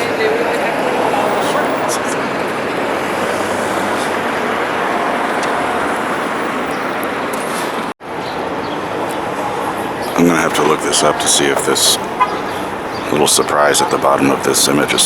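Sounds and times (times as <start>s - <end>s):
city road traffic roar: 0.0s - 15.0s.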